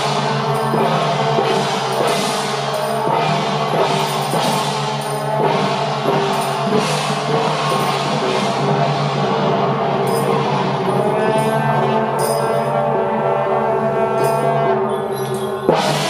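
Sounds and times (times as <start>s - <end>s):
drums beating steady rhythm: 0.0s - 16.0s
ringing cymbal crashes: 0.0s - 16.0s.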